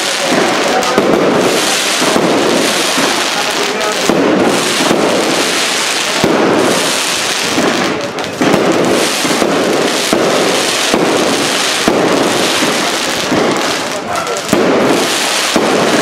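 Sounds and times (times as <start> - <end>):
crackle of firework stars: 0.0 - 16.0
firework shells bursting: 0.0 - 16.0.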